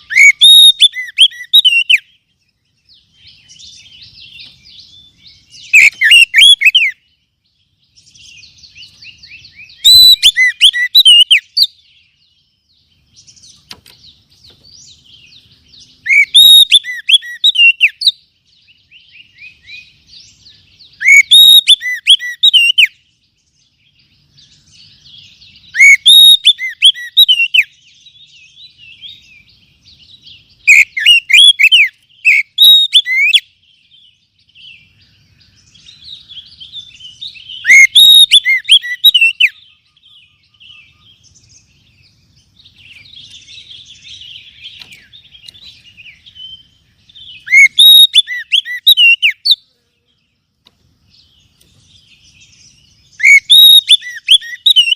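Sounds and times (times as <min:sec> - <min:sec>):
bird whistled song phrases: 0:00.0 - 0:13.7, 0:14.5 - 0:49.7, 0:51.1 - 0:54.9.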